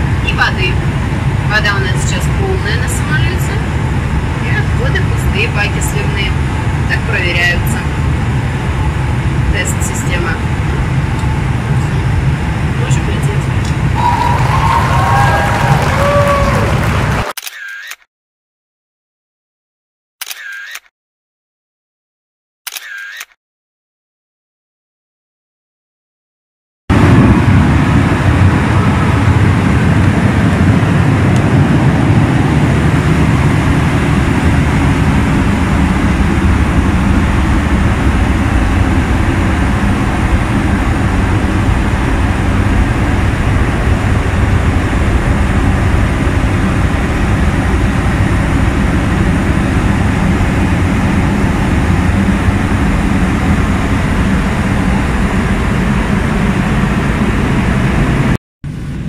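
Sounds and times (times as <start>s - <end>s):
aircraft cabin noise: 0.0s - 18.0s, 26.9s - 59.0s.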